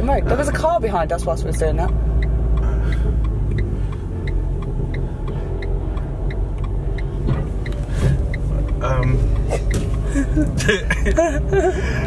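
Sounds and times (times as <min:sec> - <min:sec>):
car engine and road noise: 0:00.0 - 0:12.0
light regular ticking: 0:00.0 - 0:12.0.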